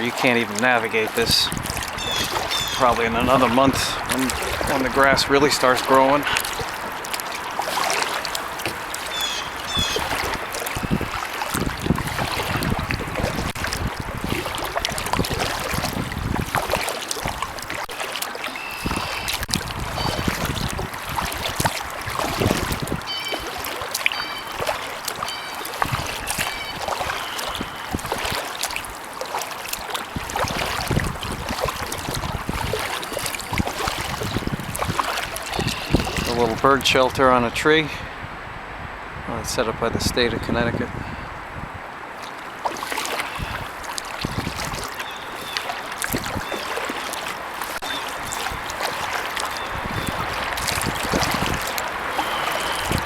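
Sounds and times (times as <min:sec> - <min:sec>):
water drips and splashes: 0:00.0 - 0:37.2, 0:42.0 - 0:53.0
paddle strokes in water: 0:00.0 - 0:38.0, 0:40.1 - 0:53.0.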